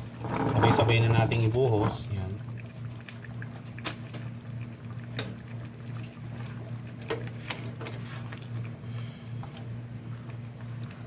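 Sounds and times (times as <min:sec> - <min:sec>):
liquid sloshing in pot: 0:00.0 - 0:11.0
steady low hum: 0:00.0 - 0:11.0.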